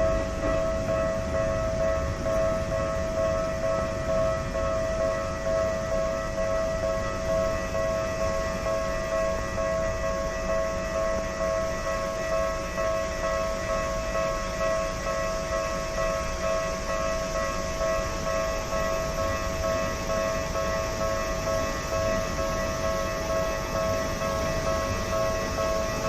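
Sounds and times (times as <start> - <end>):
level-crossing warning bell ringing: 0.0 - 26.0.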